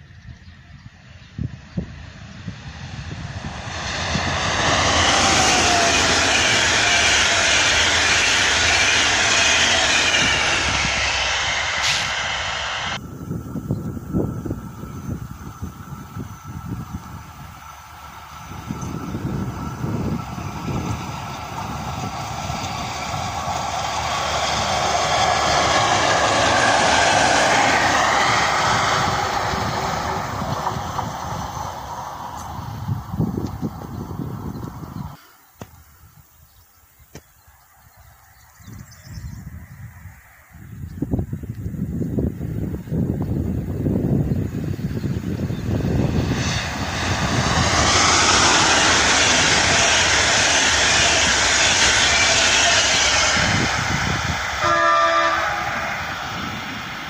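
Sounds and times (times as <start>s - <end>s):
rail motor car passing: 0.0s - 57.0s.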